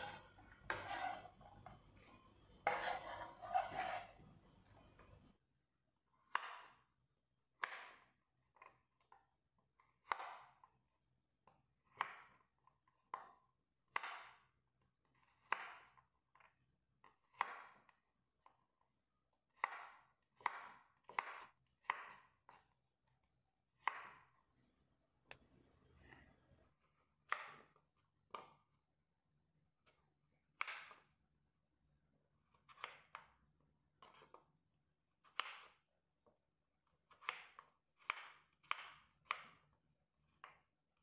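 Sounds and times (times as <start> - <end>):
knife cutting carrot on wooden board: 0.0 - 4.3, 6.0 - 24.5, 25.3 - 28.8, 29.7 - 31.3, 32.4 - 41.0.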